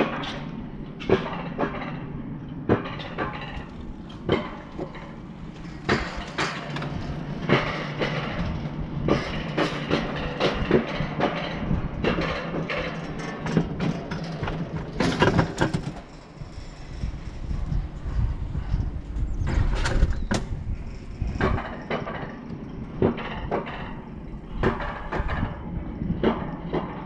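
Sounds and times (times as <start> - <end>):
coaster sled metallic clacks: 0.0 - 27.0
steady low hum: 0.0 - 27.0.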